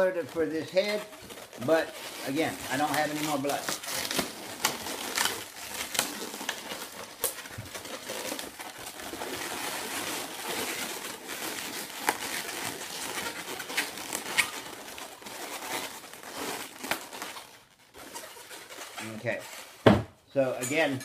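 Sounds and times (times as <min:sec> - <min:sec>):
balloons squeaking and rubbing: 0:00.0 - 0:20.5.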